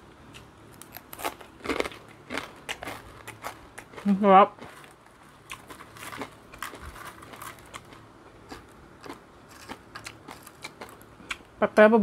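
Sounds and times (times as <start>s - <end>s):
chewing crispy dried fish: 0.2s - 11.6s.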